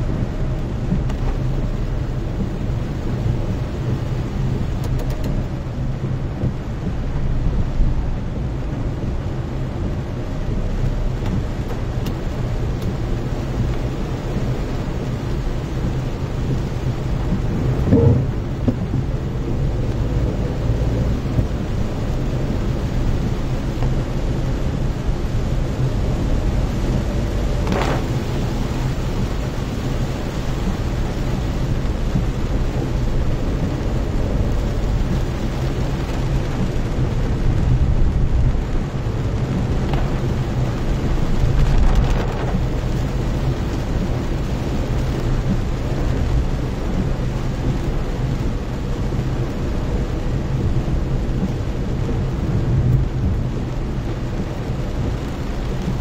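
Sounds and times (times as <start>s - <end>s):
car engine and tyre rumble: 0.0s - 56.0s
heavy rain drumming on car roof: 0.0s - 56.0s.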